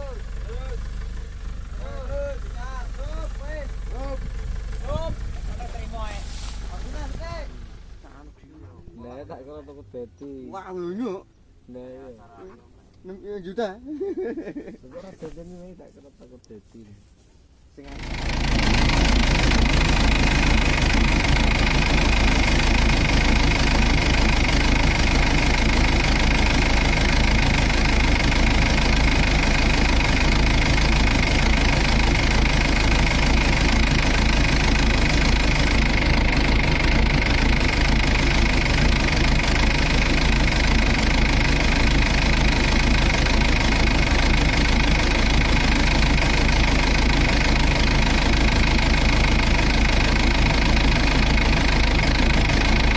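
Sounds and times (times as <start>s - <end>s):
combine harvester diesel engine running: 0.0s - 10.7s, 17.8s - 52.9s.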